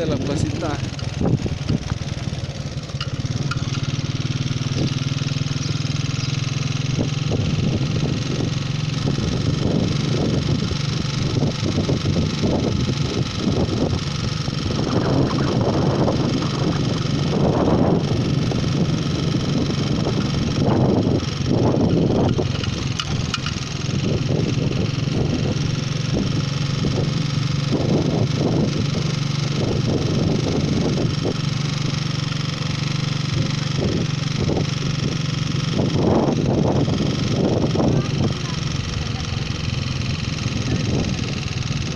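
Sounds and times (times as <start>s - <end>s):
wind buffeting microphone: 0.0s - 2.3s, 6.8s - 31.8s, 33.2s - 38.8s, 40.4s - 41.9s
vehicle engine droning: 0.0s - 41.9s.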